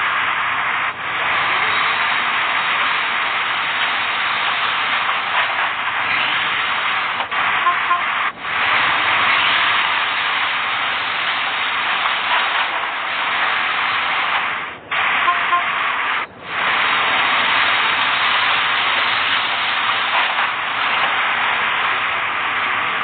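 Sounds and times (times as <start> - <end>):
loud hissing noise: 0.0 - 23.0.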